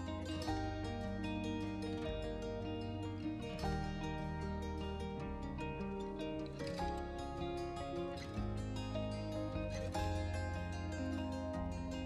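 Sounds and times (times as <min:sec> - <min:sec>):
plucked-string melody: 0:00.0 - 0:12.0
sustained bass: 0:00.0 - 0:12.0.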